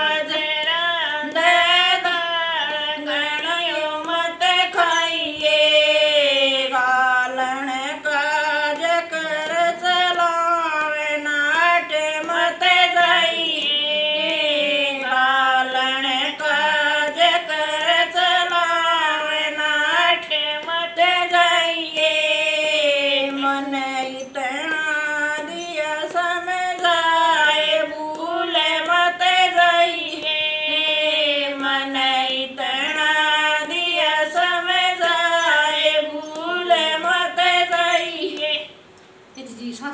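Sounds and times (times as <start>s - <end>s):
two women singing: 0.0s - 39.9s.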